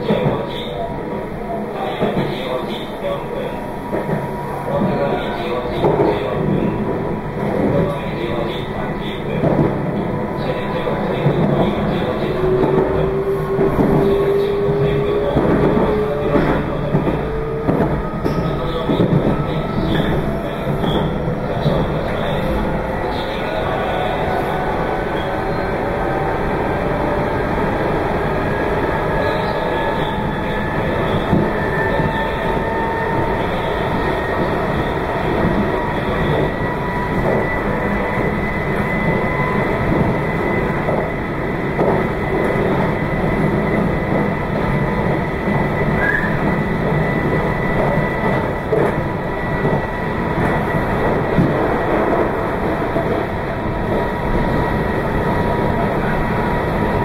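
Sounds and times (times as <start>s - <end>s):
train rolling rumble: 0.0s - 57.0s.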